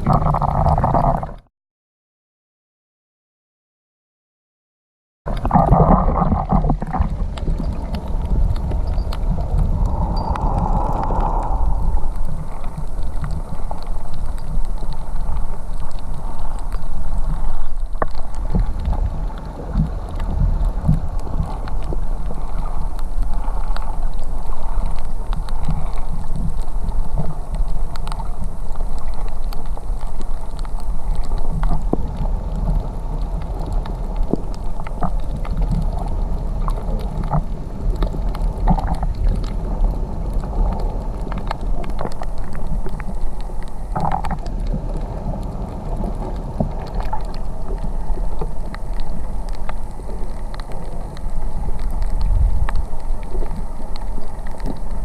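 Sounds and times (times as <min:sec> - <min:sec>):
muffled rumble of moving water: 0:00.0 - 0:01.5, 0:05.3 - 0:55.0
small clicks and gurgles: 0:00.0 - 0:01.5, 0:05.3 - 0:55.0.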